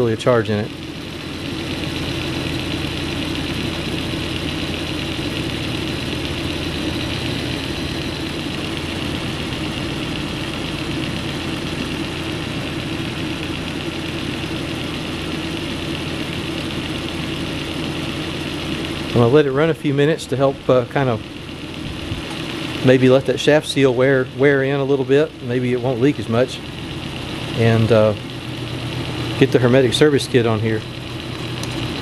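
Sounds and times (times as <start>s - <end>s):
refrigeration unit motor humming: 0.0s - 32.0s.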